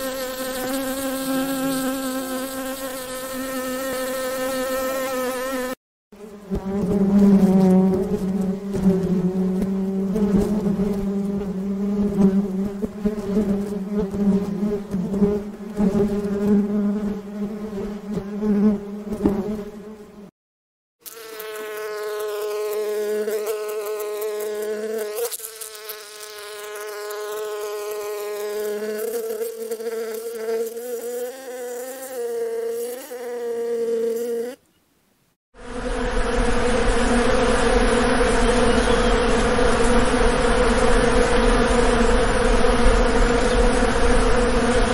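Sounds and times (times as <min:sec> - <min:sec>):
bees buzzing: 0:00.0 - 0:20.3, 0:21.0 - 0:34.6, 0:35.6 - 0:44.9.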